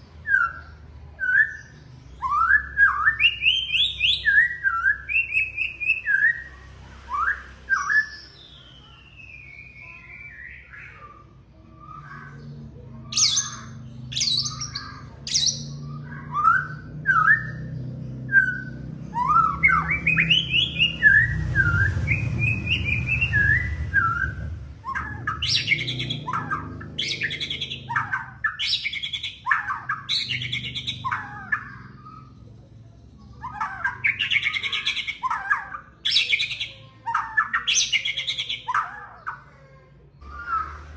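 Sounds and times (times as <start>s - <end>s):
bird singing whistles and chatter: 0.1s - 32.7s, 33.3s - 39.6s, 40.2s - 40.9s.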